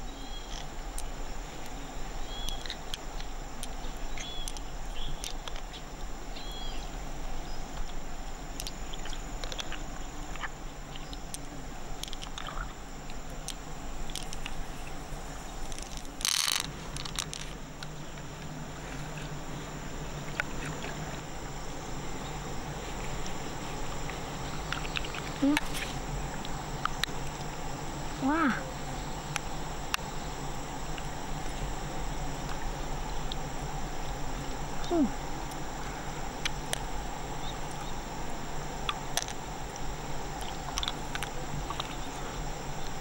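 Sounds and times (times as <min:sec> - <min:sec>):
high insect hum: 0:00.0 - 0:43.0.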